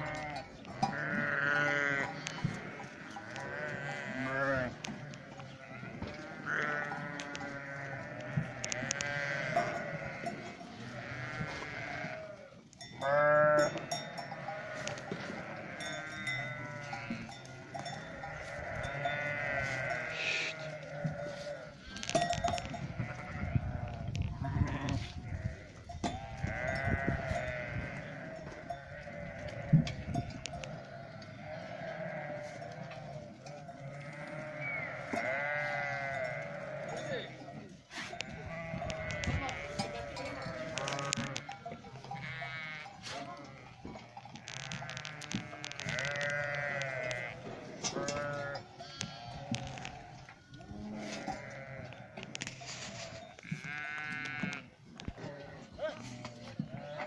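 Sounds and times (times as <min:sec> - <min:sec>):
sheep bleating: 0:00.0 - 0:22.2, 0:22.9 - 0:52.4, 0:53.0 - 0:57.0.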